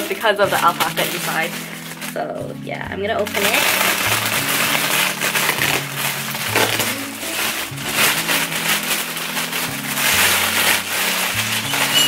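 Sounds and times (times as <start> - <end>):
background music with bass line: 0.0 - 12.0
plastic packaging crinkling: 0.0 - 12.0.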